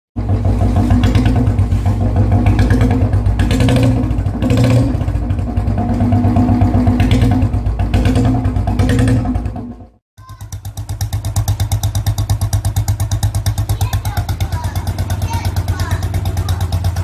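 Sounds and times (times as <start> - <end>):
engine throttle blips: 0.2 - 17.0
motorcycle engine thumping: 0.2 - 17.0.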